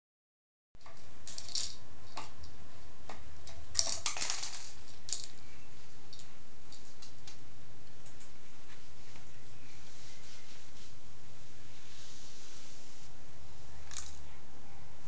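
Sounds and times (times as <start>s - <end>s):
low steady hum: 0.8s - 15.0s.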